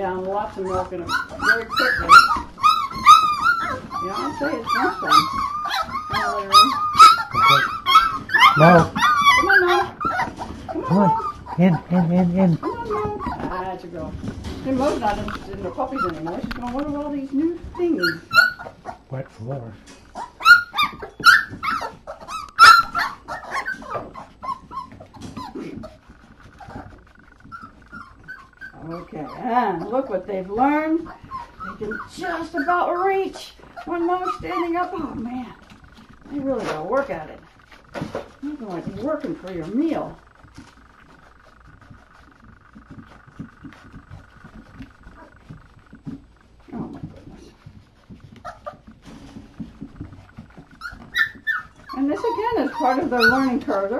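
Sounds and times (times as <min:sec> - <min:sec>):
puppies whining and yelping: 0:00.1 - 0:19.2, 0:19.9 - 0:53.9.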